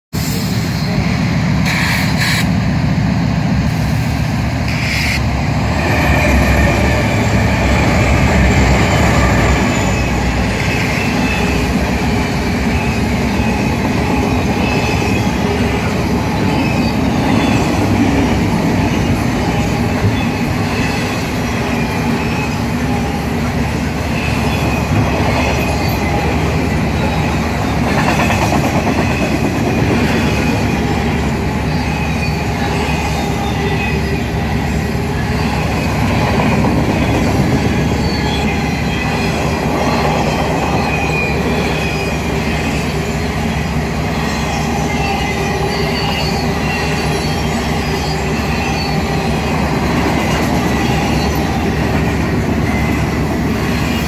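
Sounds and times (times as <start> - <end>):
freight train wheels on rail: 0.1 - 54.0
train wheel squeal: 0.2 - 2.6, 3.8 - 54.0.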